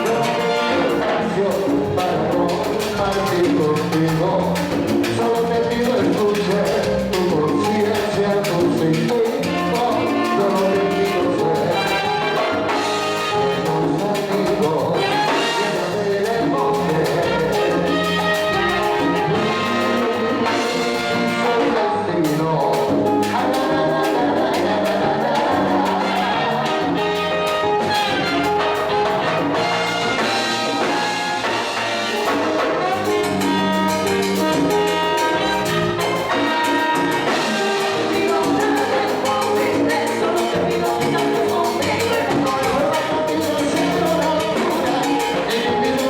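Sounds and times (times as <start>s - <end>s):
trumpets and trombones: 0.0s - 3.4s, 9.2s - 22.6s, 24.8s - 46.0s
percussion rhythm: 0.0s - 46.0s.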